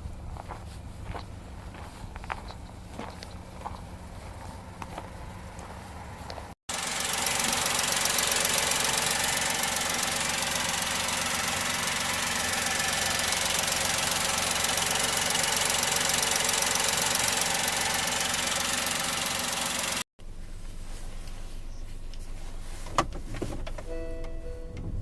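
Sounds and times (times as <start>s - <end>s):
car engine idling: 0.0s - 21.7s.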